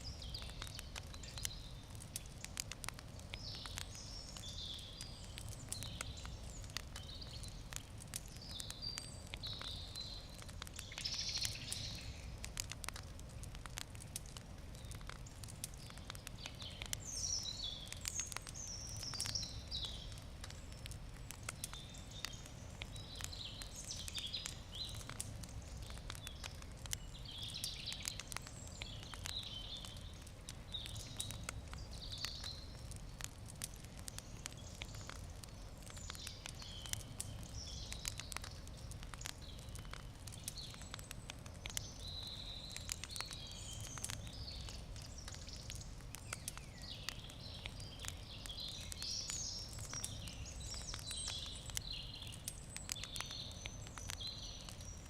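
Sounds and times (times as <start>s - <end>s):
campfire wood crackling and popping: 0.0s - 55.0s
birds chirping: 3.3s - 12.4s, 14.7s - 32.9s, 33.9s - 55.0s.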